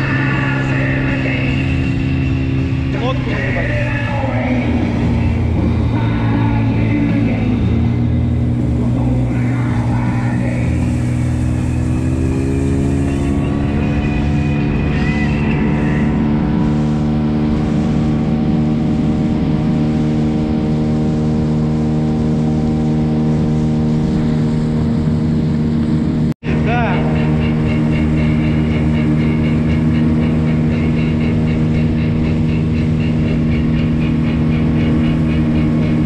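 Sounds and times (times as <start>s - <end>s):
outboard motor running: 0.0s - 36.0s.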